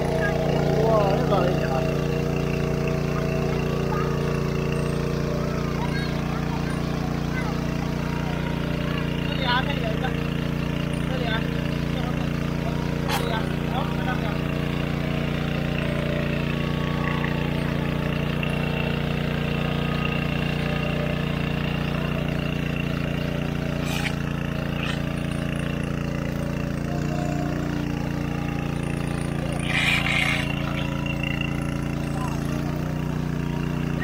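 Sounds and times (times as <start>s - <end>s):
engine-driven water pump running: 0.0s - 34.0s.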